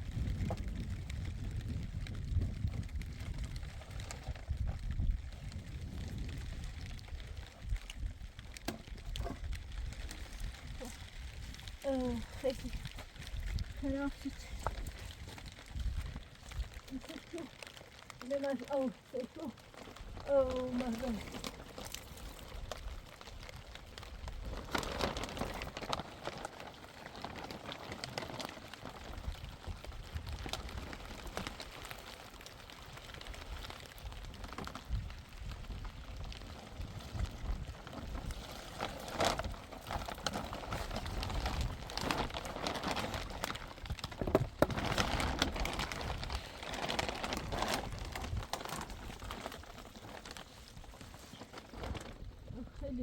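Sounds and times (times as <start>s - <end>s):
water dripping off tent: 0.0s - 53.0s.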